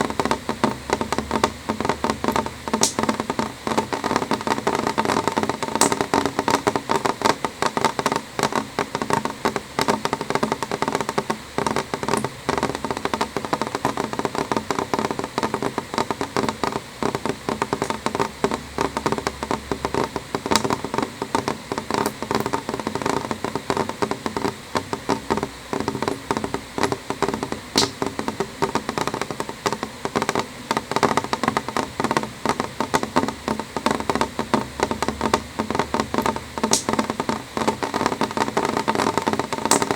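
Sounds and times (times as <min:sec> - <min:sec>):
rain tapping on glass: 0:00.0 - 0:39.9.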